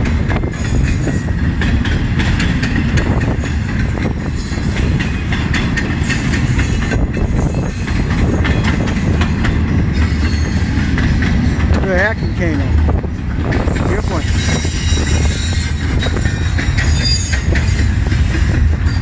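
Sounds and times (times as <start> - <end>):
wheels clicking over rail joints: 0.0 - 12.4, 13.2 - 19.0
freight train cars rumbling: 0.0 - 19.0.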